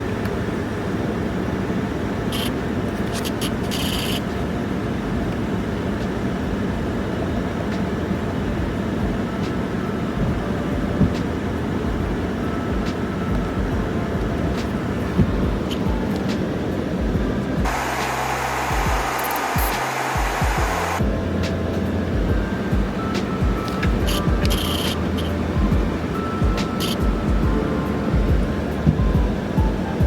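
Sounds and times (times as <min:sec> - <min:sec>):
pickup truck running: 0:00.0 - 0:30.0.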